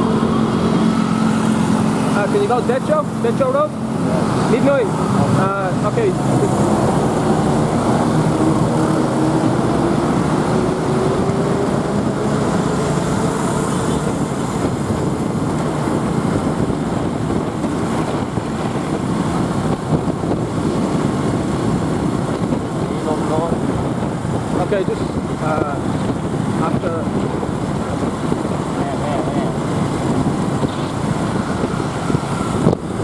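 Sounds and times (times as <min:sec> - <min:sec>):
motorbike engine: 0:00.0 - 0:33.0
road noise: 0:00.0 - 0:33.0.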